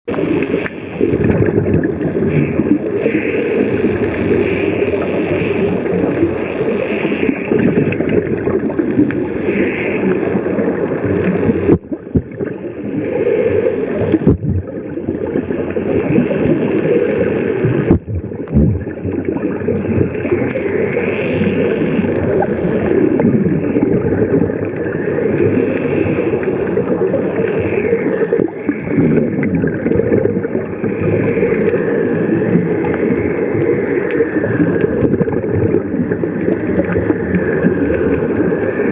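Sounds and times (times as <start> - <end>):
exhaled bubbles gurgling: 0.1 - 38.9
muffled underwater noise: 0.1 - 38.9
diver's regulator breathing: 2.3 - 8.2, 8.9 - 11.8, 12.6 - 14.4, 15.7 - 18.6, 20.1 - 38.9.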